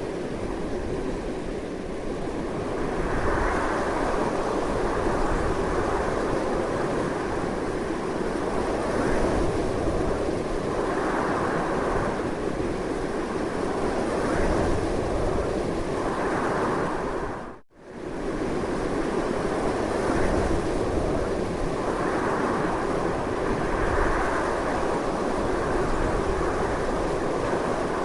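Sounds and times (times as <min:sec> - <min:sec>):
strong gusty wind: 0:00.0 - 0:28.0.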